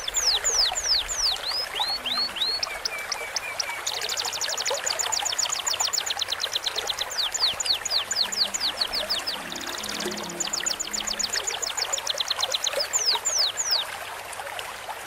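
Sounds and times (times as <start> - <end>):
birds singing: 0.0 - 14.0
stream water trickling: 0.0 - 15.0.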